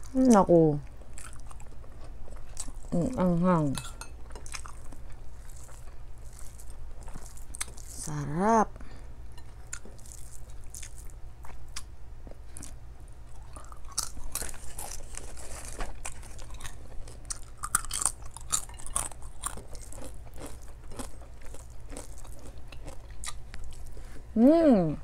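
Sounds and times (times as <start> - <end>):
chewing noises: 0.0 - 8.1, 9.4 - 24.3
steady low hum: 0.0 - 25.0.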